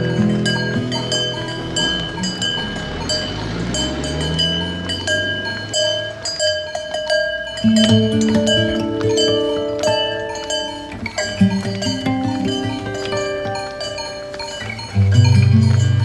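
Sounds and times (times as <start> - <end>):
cowbells clanking: 0.0 - 16.0.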